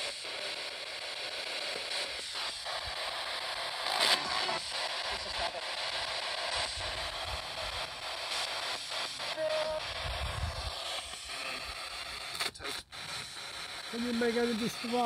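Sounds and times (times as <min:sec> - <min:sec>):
radio static hiss: 0:00.0 - 0:15.0
short steady radio tone: 0:00.0 - 0:15.0.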